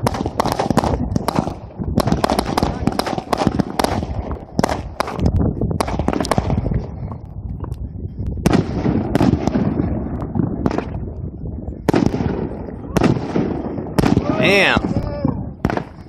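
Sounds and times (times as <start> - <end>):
fireworks bangs and crackles: 0.0 - 16.0
rumbling echo: 0.0 - 16.0.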